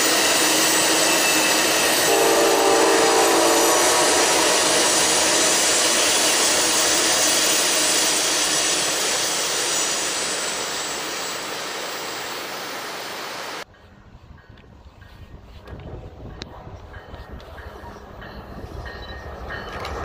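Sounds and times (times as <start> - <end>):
train rumbling across bridge: 0.0 - 20.0.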